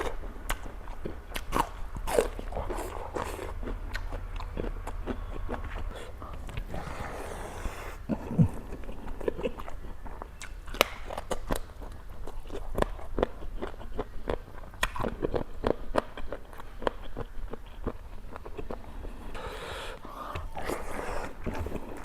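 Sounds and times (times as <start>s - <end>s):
chewing crunchy food: 0.0s - 22.0s.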